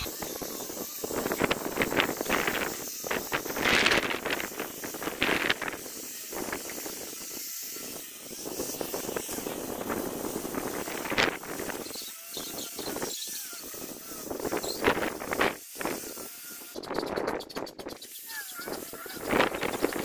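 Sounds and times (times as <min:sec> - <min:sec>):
power sander on wood: 0:00.0 - 0:20.0
wind noise on microphone: 0:00.0 - 0:20.0.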